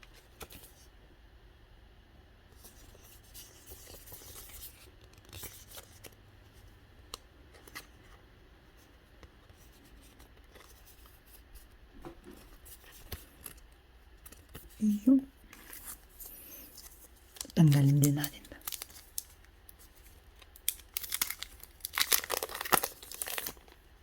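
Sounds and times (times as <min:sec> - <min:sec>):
cards and packaging rustling: 0:00.0 - 0:00.9, 0:02.6 - 0:08.2, 0:09.3 - 0:23.9.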